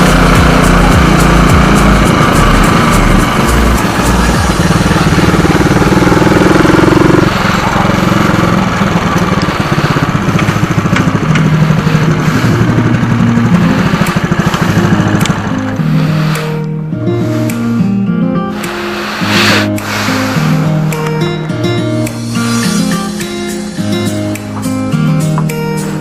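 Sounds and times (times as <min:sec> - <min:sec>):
motorcycle engine exhaust note: 0:00.0 - 0:26.0.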